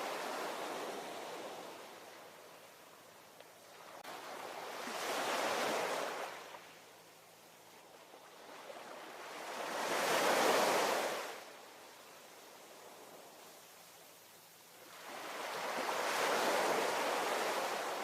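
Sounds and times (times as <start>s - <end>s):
ocean waves breaking on shore: 0.0s - 7.0s, 7.7s - 18.0s.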